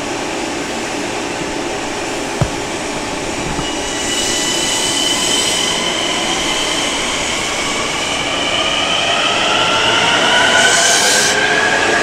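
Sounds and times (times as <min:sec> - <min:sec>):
train cars rumbling: 0:00.0 - 0:10.7.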